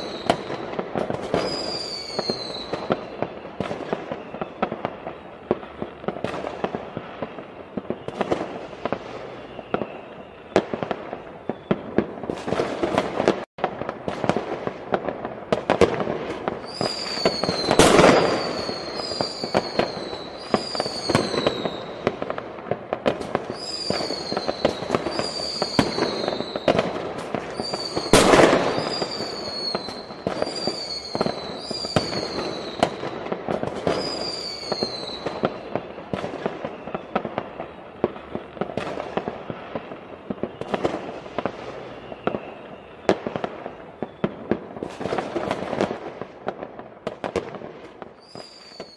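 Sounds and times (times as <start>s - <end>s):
falling firework whistle: 0.0s - 48.9s
fireworks popping and banging: 0.0s - 48.9s
loud firework booms: 0.0s - 48.9s.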